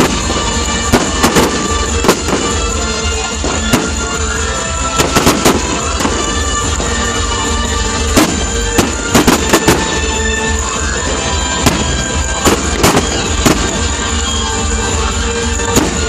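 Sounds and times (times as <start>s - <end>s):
fireworks shells bursting: 0.0s - 16.0s
loud music: 0.0s - 16.0s.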